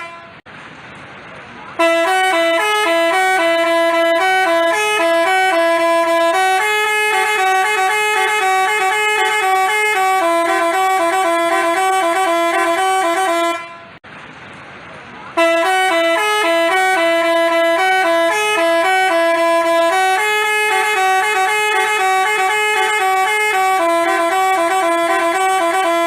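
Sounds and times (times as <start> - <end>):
musical bus horn melody: 0.0 - 0.4, 1.8 - 14.0, 15.4 - 26.0.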